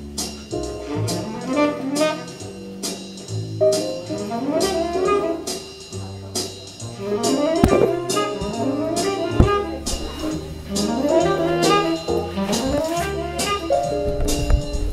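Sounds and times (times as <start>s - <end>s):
jazz with horns and drums: 0.1s - 14.9s.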